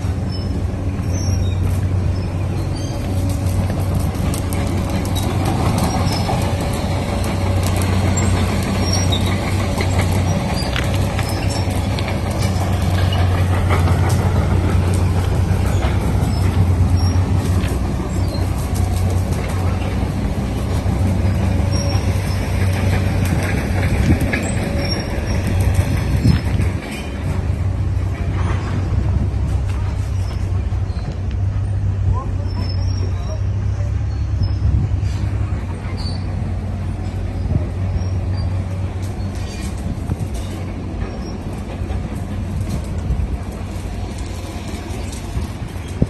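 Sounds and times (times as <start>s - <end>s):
excavator diesel engine humming: 0.0s - 46.0s.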